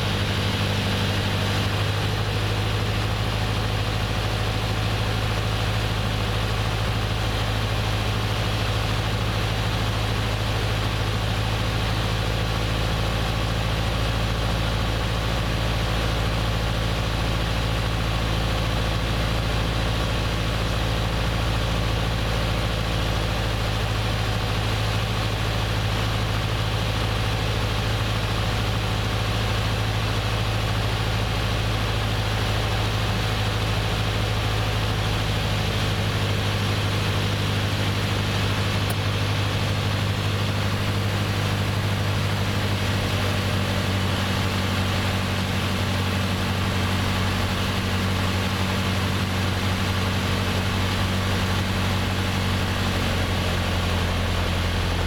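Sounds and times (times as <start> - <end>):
airplane engine droning in cabin: 0.0 - 55.0.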